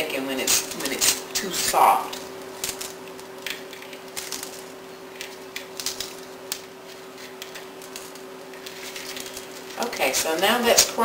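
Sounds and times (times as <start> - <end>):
faint hum: 0.0 - 11.0
bacon crackling as crumbled: 0.4 - 11.0.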